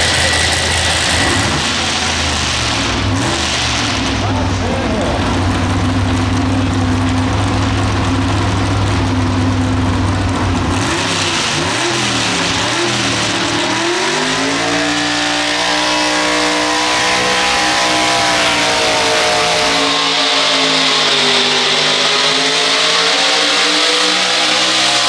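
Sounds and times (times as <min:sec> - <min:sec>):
tractor engine revving: 0:00.0 - 0:25.0.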